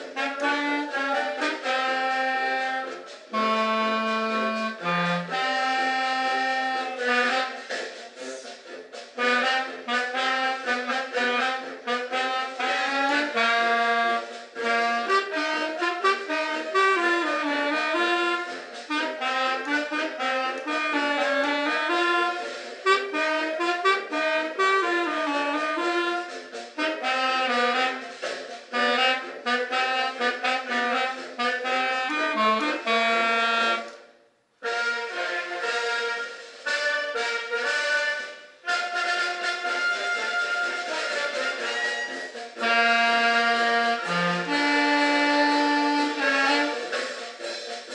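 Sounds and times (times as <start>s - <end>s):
wind instrument melody: 0.0s - 47.9s.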